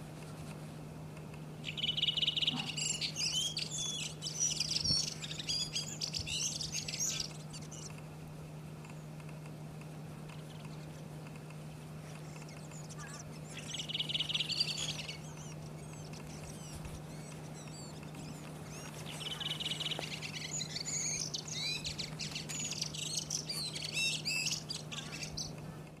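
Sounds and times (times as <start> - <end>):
steady low hum: 0.0 - 26.0
bird singing trills and twitter: 1.6 - 8.0, 10.3 - 26.0.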